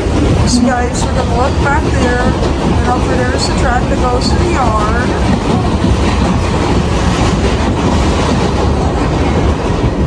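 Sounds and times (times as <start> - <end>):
subway wheels rumbling on rails: 0.0 - 10.0
track clatter: 0.0 - 10.0.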